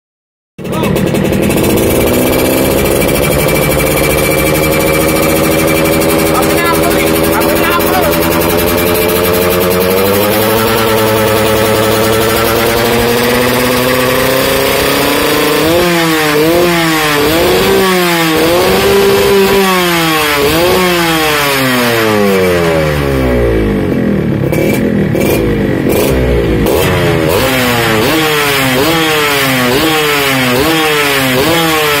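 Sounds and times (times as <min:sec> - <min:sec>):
two-stroke engine revving: 0:00.6 - 0:32.0.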